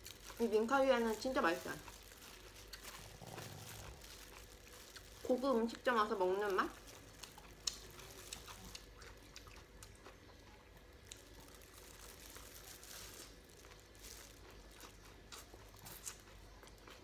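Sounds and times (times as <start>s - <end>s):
gloved hand rustling salad: 0.0s - 9.2s, 10.9s - 17.0s
crunchy chewing of salad: 0.0s - 17.0s.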